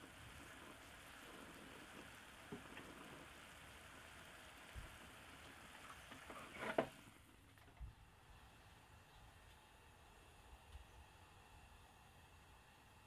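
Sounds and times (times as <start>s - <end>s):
syrup boiling in a saucepan: 0.0s - 13.0s.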